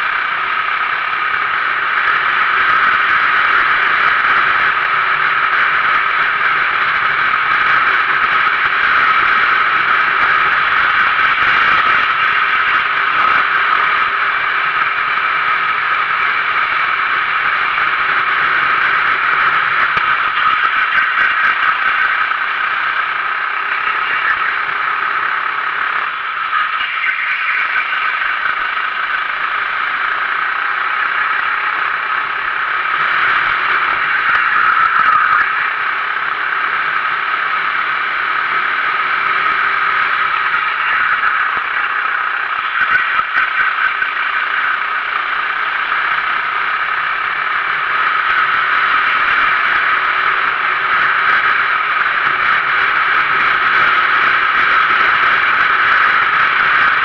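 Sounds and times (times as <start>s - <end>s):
kart engine running hard: 0.0s - 57.0s
wind noise: 0.0s - 57.0s.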